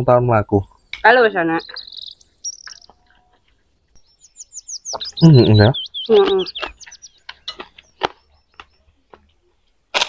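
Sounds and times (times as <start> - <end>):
small bird chirping: 0.2 - 9.6.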